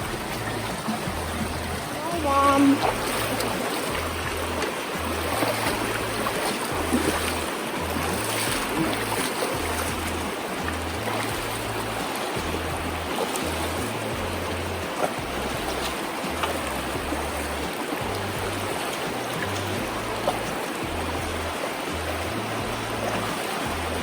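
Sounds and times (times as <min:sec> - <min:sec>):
music with rhythmic bass: 0:00.0 - 0:24.0
river water rushing: 0:00.0 - 0:24.0.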